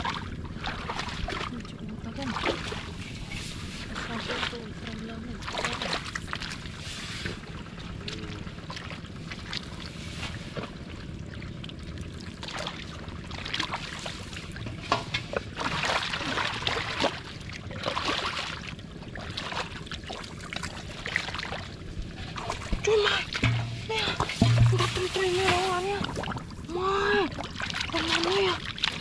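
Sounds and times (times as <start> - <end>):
shallow water sloshing and splashing: 0.0 - 29.0.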